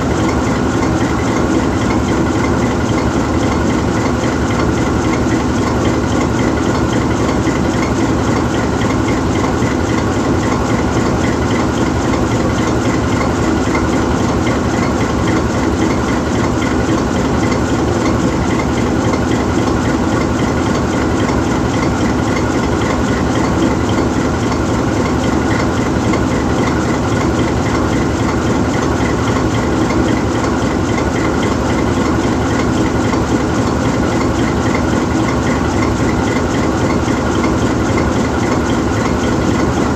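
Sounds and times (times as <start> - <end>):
locomotive diesel engine idling: 0.0 - 39.9.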